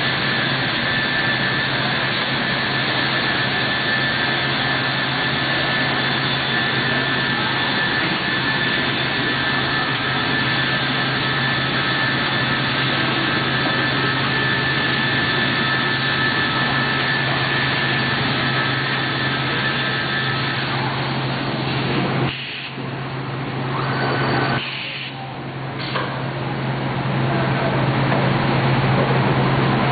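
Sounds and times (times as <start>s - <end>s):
boring machine running: 0.0s - 29.9s.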